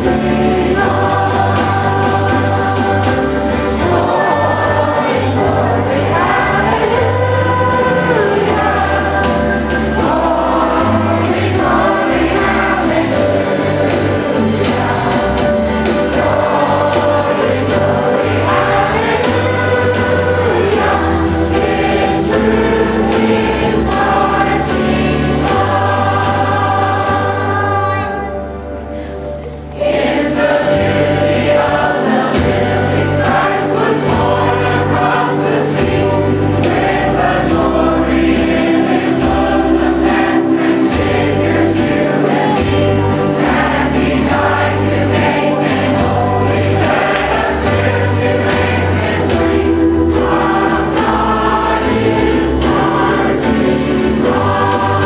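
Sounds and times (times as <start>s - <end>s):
children's choir singing: 0.0s - 55.0s
instrumental accompaniment with bass: 0.0s - 55.0s.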